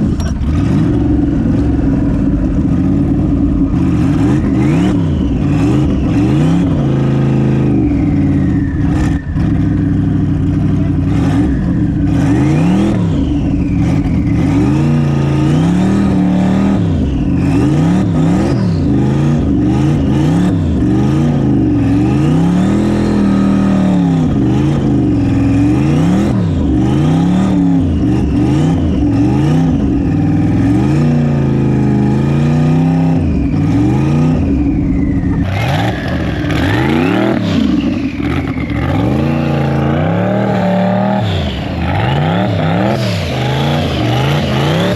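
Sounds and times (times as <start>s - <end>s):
engine revving hard: 0.0s - 44.9s.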